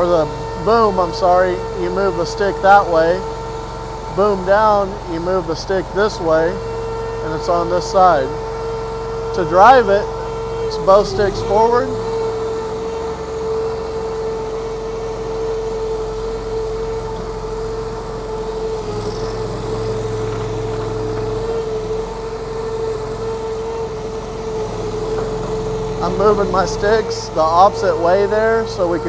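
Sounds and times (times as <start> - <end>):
small engine running: 0.0 - 29.0
steady whine: 0.0 - 29.0.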